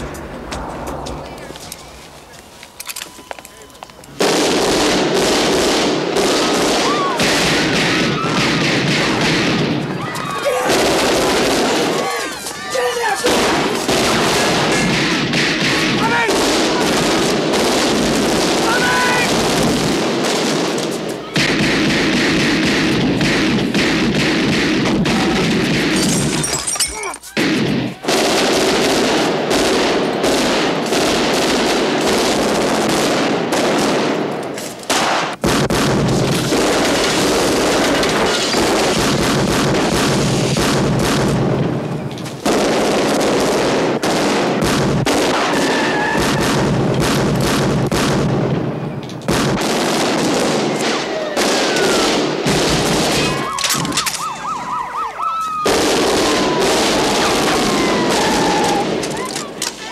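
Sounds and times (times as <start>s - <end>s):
rapid gunfire: 4.2s - 12.2s, 12.8s - 26.2s, 27.4s - 34.3s, 34.9s - 41.8s, 42.4s - 48.7s, 49.3s - 53.8s, 55.7s - 59.0s.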